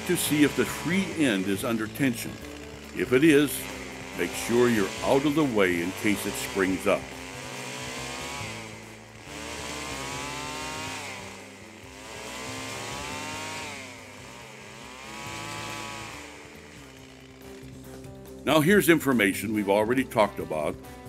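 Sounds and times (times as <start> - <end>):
chainsaw revving: 0.0 - 20.8.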